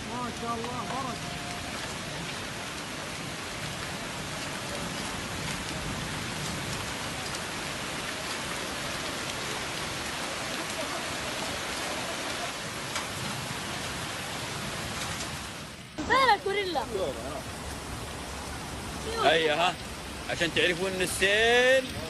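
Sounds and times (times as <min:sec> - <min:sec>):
heavy rain on flooded street: 0:00.0 - 0:22.0.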